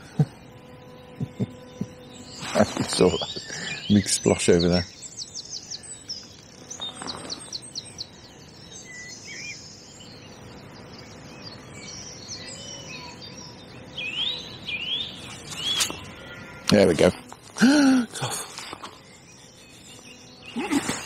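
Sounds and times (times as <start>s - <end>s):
outdoor background hiss: 0.0s - 21.0s
songbirds singing: 0.0s - 21.0s.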